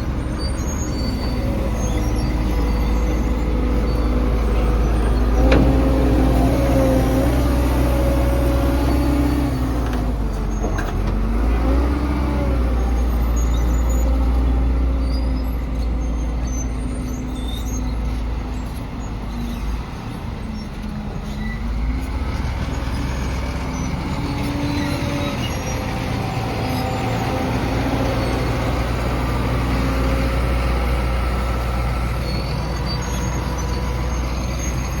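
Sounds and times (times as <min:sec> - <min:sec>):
heavy machine engine revving: 0:00.0 - 0:17.1, 0:21.1 - 0:35.0.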